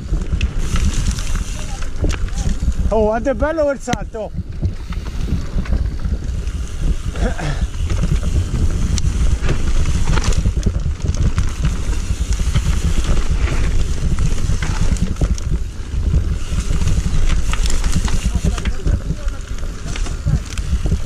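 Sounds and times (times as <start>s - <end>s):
bike clicking and rattling: 0.0s - 21.0s
bike tyres on dirt: 0.0s - 21.0s
wind rumble on microphone: 0.0s - 21.0s.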